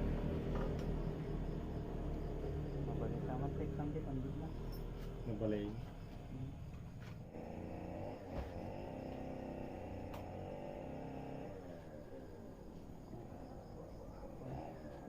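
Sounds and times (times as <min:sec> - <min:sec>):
faint engine hum: 0:00.0 - 0:15.0.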